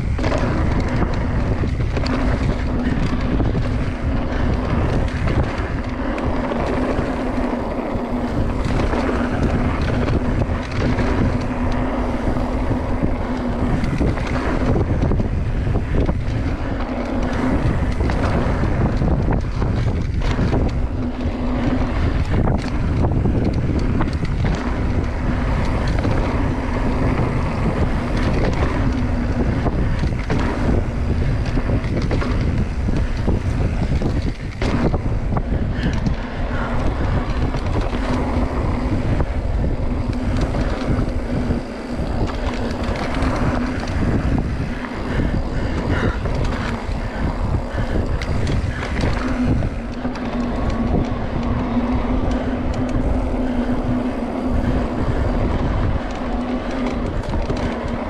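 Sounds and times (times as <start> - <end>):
bike rattles and knocks: 0.0 - 58.0
bike tyre noise: 0.0 - 58.0
steady hum: 0.0 - 58.0
wind buffeting microphone: 0.0 - 58.0.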